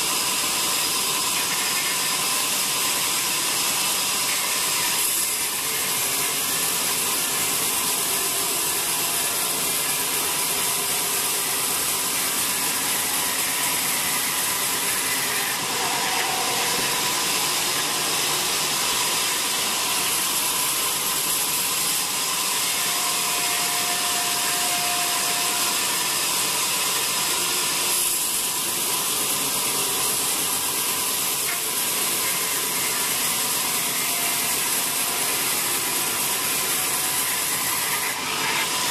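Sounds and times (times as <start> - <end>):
sawmill machine running: 0.0 - 38.9.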